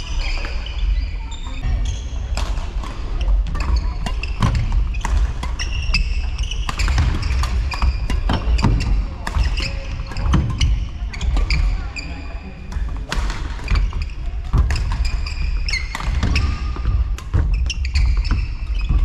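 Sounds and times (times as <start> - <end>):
squeaks of court shoes: 0.0 - 12.7, 13.6 - 19.0
rackets hitting shuttlecock: 1.6 - 11.8, 12.7 - 19.0.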